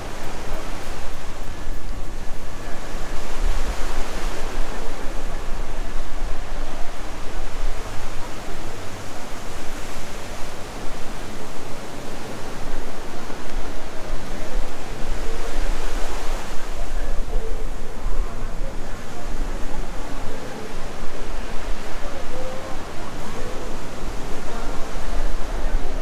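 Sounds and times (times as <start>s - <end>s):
ocean surf rushing: 0.0s - 26.0s.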